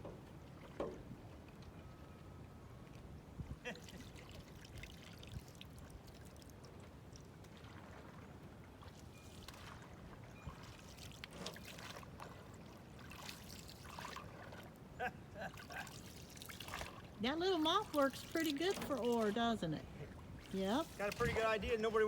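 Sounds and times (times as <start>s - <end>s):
pond water splashing and dripping: 0.0s - 2.0s, 2.8s - 22.0s.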